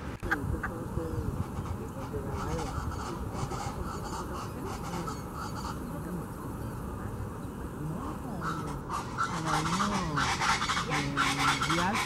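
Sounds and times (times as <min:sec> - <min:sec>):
birds giving raucous calls: 0:00.0 - 0:12.0
rapid pulsing bird chatter: 0:00.0 - 0:12.0.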